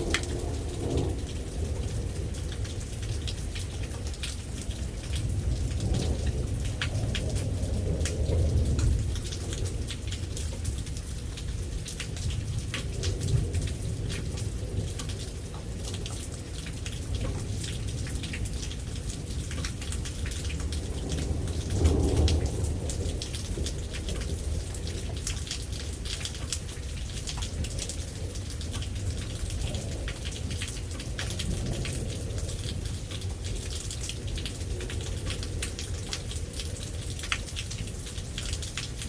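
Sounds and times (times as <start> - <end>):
low rumble of thunder: 0.0 - 39.0
raindrops striking close by: 0.0 - 39.0
steady rain falling: 0.0 - 39.0.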